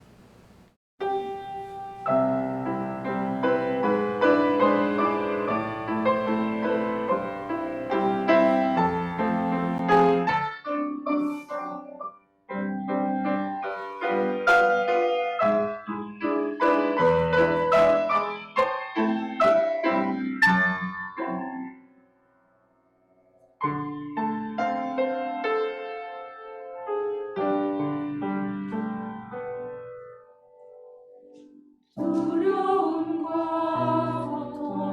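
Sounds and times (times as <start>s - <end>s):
piano playing slow phrases: 1.0s - 34.9s.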